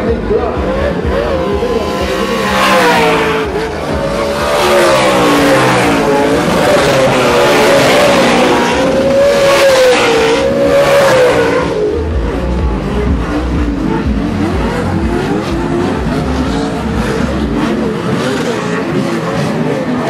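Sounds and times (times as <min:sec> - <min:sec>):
race truck engines revving: 0:00.0 - 0:20.0.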